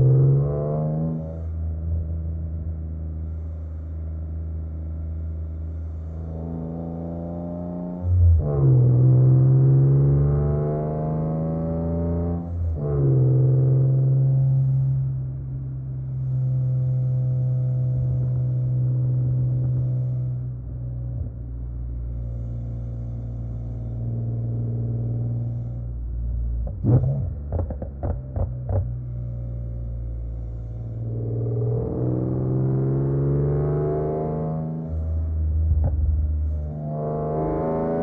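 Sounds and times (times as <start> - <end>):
car engine revving: 0.0 - 20.6, 22.0 - 26.0, 26.6 - 38.0.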